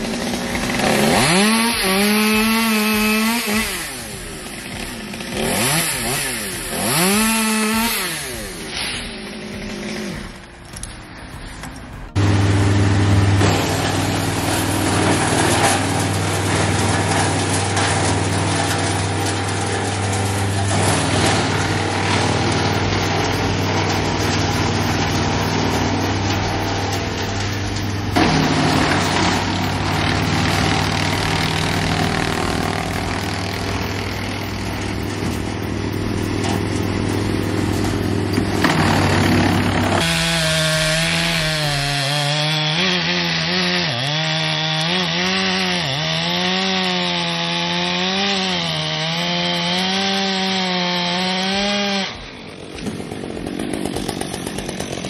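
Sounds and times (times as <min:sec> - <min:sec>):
chainsaw cutting timber: 0:00.0 - 0:10.9, 0:12.2 - 0:55.0.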